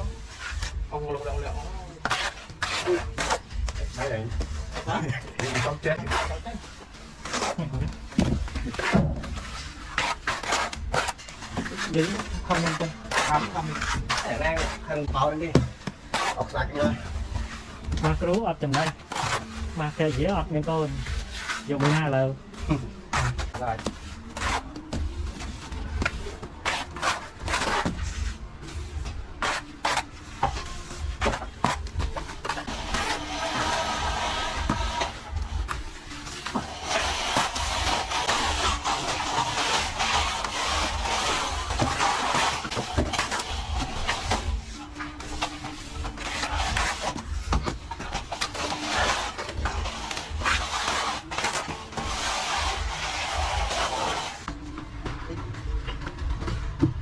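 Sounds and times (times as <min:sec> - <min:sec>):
trowel scraping across wall: 0:01.4 - 0:28.4, 0:29.4 - 0:54.5.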